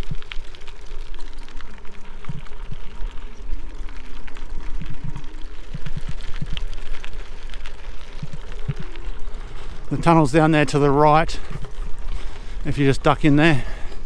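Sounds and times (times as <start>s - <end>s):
bike tyres crackling on gravel: 0.0s - 14.0s
low tyre rumble: 0.0s - 14.0s.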